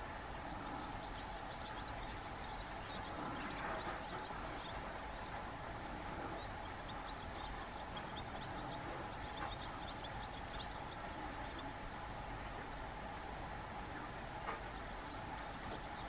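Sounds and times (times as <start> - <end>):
low rumble and hum: 0.0 - 16.0
small birds twittering: 0.0 - 16.0.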